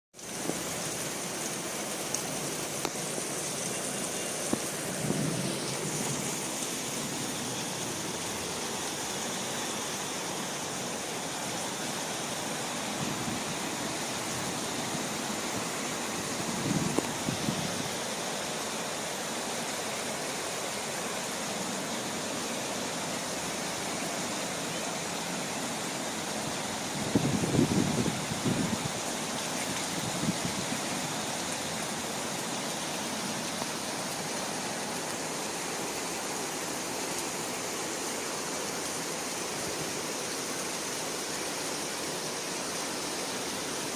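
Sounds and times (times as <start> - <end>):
rain falling: 0.2 - 43.9.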